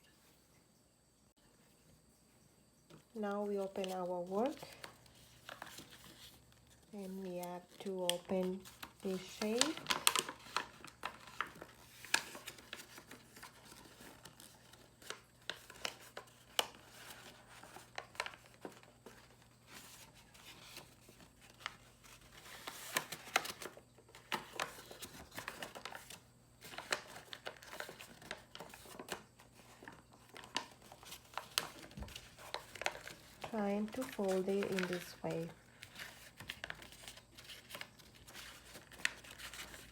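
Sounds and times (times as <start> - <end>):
stiff paper crackling and rustling: 3.2 - 39.9.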